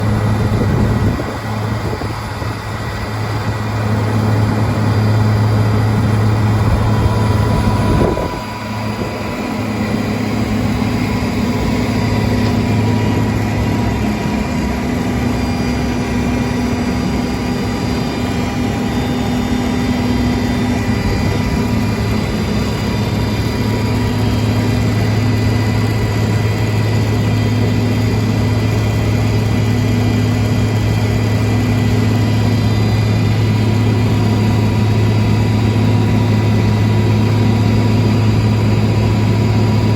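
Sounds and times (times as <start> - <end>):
hay grinder running: 0.0 - 39.9.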